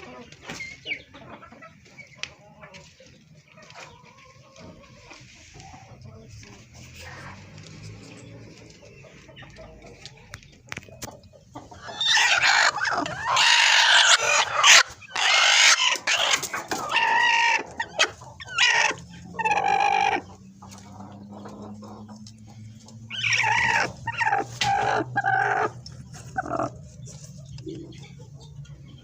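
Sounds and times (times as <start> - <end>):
chickens calling: 0.0 - 29.0.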